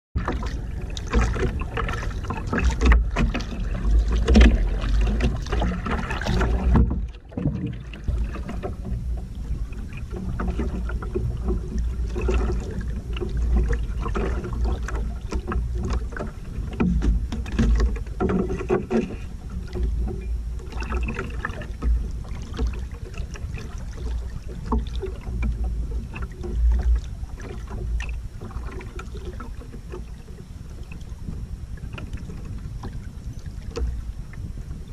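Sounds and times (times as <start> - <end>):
water lapping against canoe hull: 0.2 - 34.9
wind rumble on microphone: 0.2 - 34.9.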